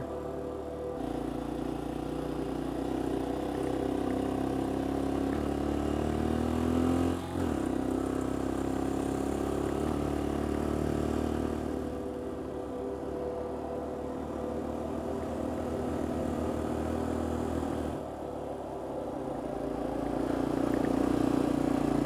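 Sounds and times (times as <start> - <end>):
motorcycle engine revving: 0.0 - 18.4, 19.2 - 22.0.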